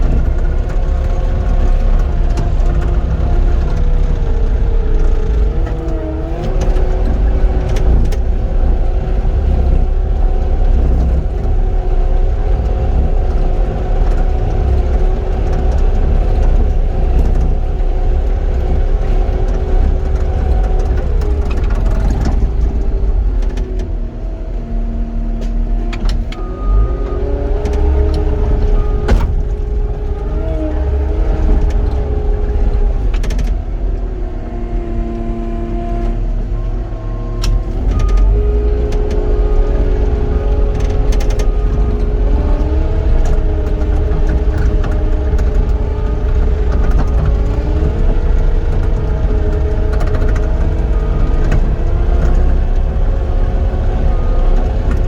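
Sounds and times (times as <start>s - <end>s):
track loader diesel engine revving: 0.0s - 55.0s.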